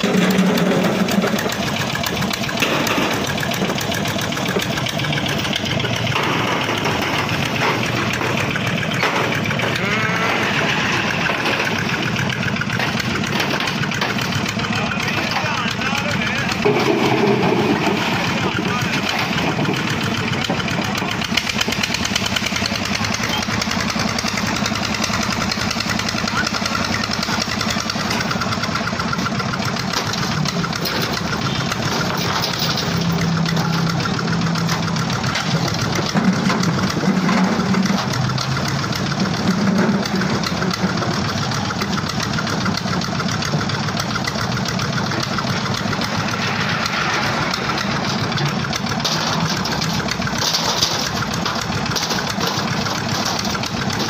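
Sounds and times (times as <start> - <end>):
stationary diesel engine running: 0.0 - 54.0.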